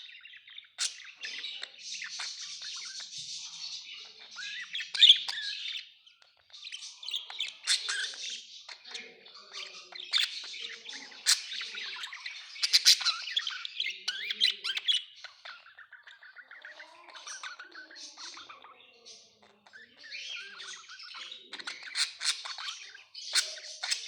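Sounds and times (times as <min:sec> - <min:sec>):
budgerigars chattering: 0:00.0 - 0:24.0.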